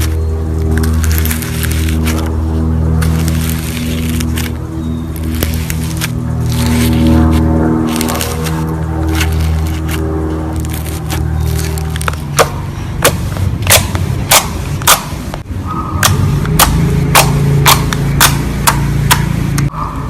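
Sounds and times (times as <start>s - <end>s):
steady low drone: 0.0s - 20.0s.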